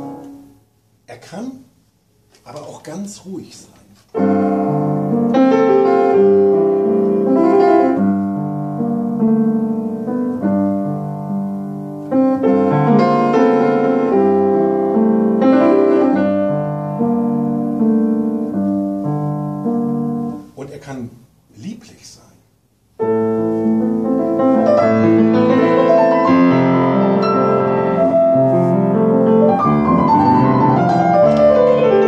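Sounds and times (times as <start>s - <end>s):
piano playing slow chords: 0.0s - 0.9s, 4.1s - 20.5s, 23.0s - 32.0s.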